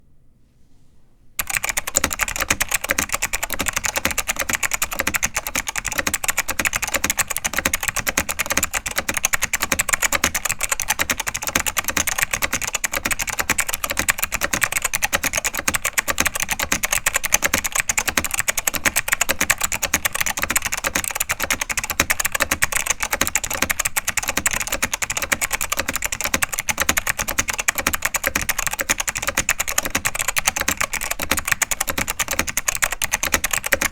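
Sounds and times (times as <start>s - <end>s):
fast mechanical keyboard typing: 1.4s - 33.9s.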